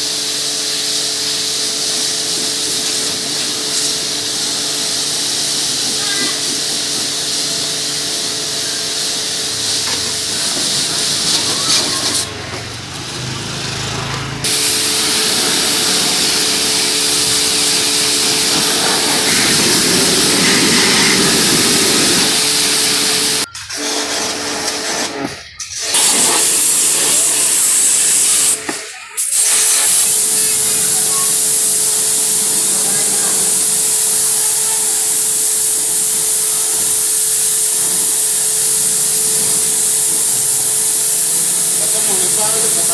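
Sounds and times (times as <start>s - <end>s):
pressure washer spray hissing: 0.0s - 12.4s, 13.1s - 42.9s.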